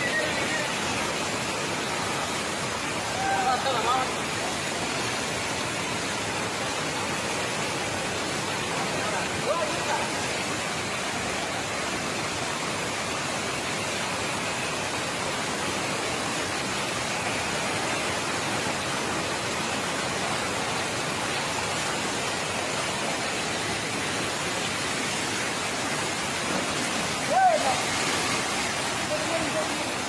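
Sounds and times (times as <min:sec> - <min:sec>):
water rushing over spillway: 0:00.0 - 0:30.0.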